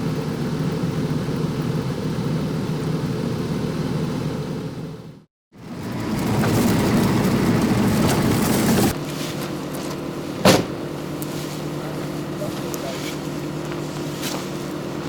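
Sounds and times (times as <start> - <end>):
engine hum: 0.0 - 15.0
loud vehicle rumbling: 0.0 - 15.0.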